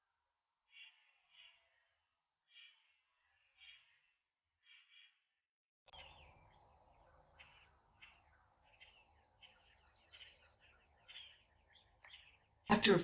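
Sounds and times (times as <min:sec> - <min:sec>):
small birds chirping: 0:00.7 - 0:05.2, 0:06.0 - 0:13.0.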